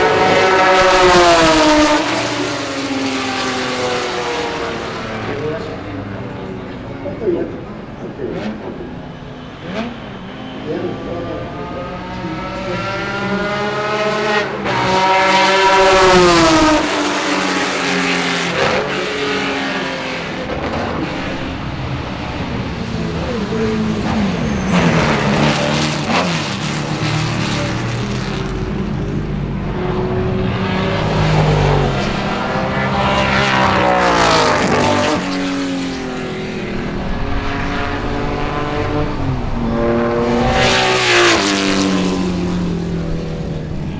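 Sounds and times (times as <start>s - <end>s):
race cars passing by: 0.0s - 43.9s.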